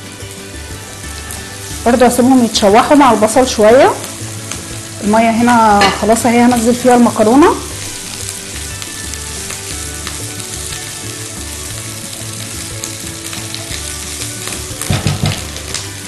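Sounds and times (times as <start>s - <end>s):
onion and garlic sizzling in oil: 0.0s - 16.0s.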